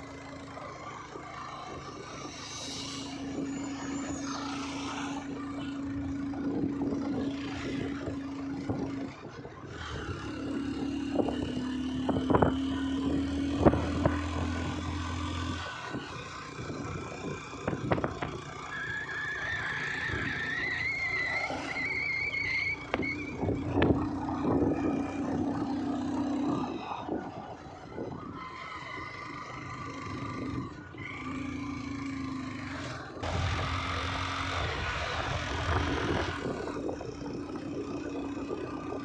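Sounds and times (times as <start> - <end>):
road noise: 0.0 - 39.0
vehicle engine running: 0.0 - 39.0.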